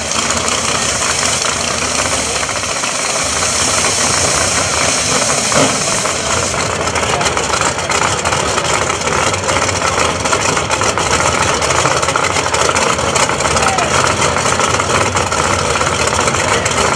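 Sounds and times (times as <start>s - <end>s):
race car engines idling loudly: 0.0s - 16.9s.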